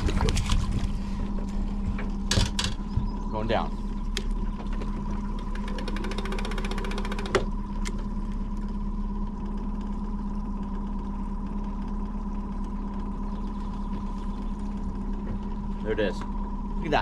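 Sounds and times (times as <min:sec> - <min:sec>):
outboard motor humming: 0:00.0 - 0:17.0.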